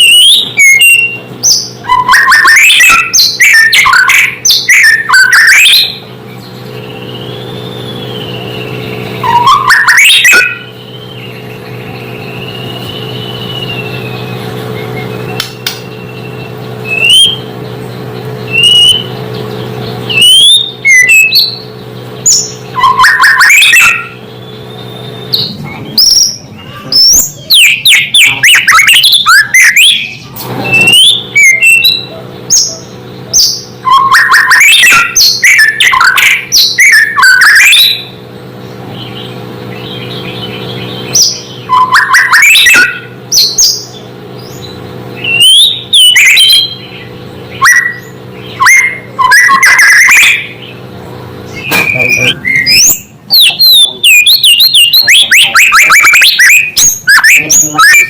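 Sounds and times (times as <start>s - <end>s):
songbird singing whistles and trills: 0.0s - 38.2s, 39.0s - 50.8s, 51.5s - 58.0s
steady low hum: 0.0s - 58.0s.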